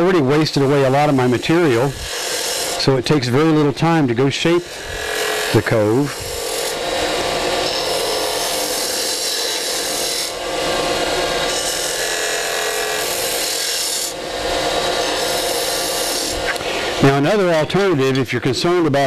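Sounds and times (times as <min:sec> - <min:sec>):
gouge cutting wood hiss: 0:00.0 - 0:17.2
lathe humming: 0:00.0 - 0:18.1.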